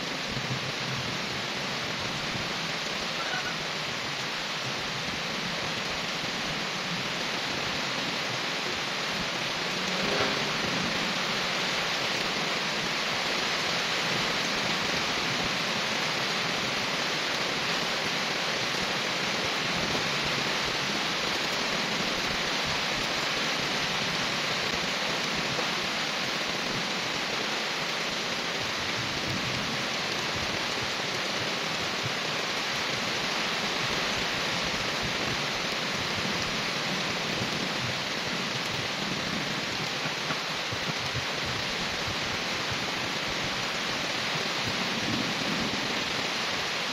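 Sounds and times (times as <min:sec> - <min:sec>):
steady rain on pavement: 0:00.0 - 0:46.9.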